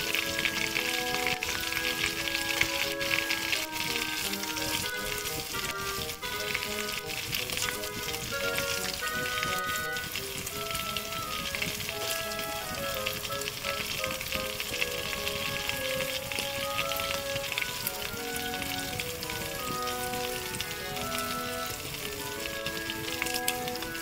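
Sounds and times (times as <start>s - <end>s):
fish deep-frying in oil: 0.0s - 24.0s
light background music: 0.0s - 24.0s.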